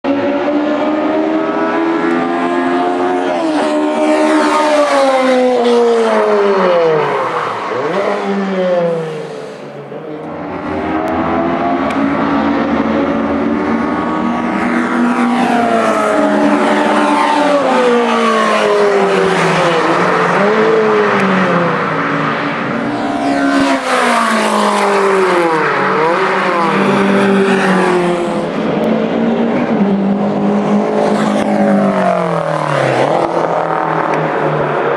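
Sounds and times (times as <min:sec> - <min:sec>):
racing cars passing at speed: 0:00.0 - 0:34.9.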